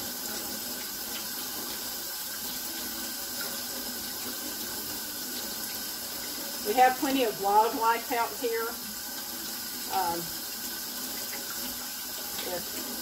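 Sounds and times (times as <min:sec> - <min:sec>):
faucet running into steel sink: 0:00.0 - 0:13.0.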